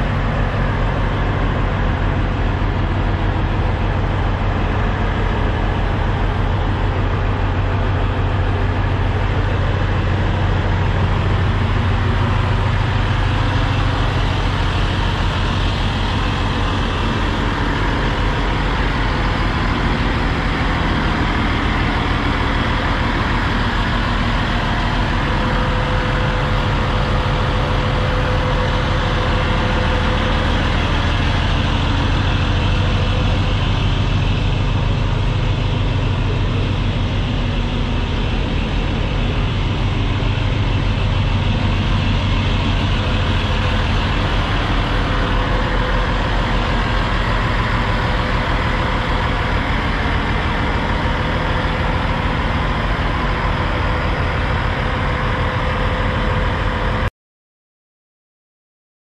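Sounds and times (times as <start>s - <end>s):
truck diesel engine idling: 0.0s - 57.1s.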